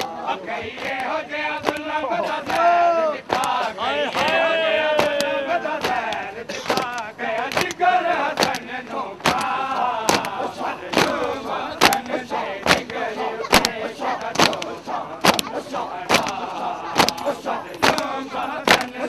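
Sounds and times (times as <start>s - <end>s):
men chanting: 0.0s - 19.0s.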